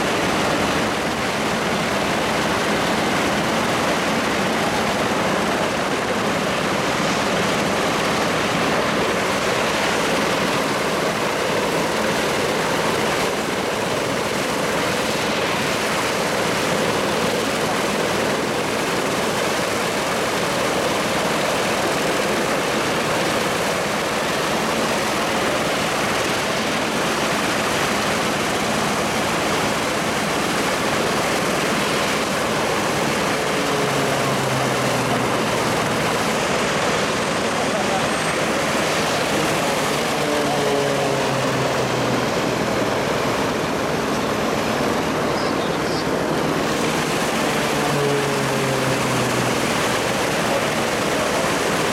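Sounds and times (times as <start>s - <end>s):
piston aircraft engines droning: 0.0s - 51.9s.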